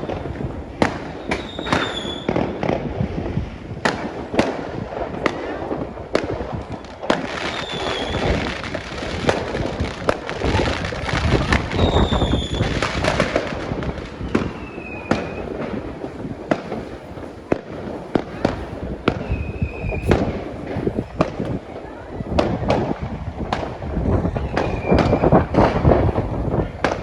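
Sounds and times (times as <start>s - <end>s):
falling firework whistles: 0.0s - 2.9s, 6.1s - 27.0s
fireworks bangs: 0.0s - 27.0s
fireworks crackling and rumbling: 0.0s - 27.0s.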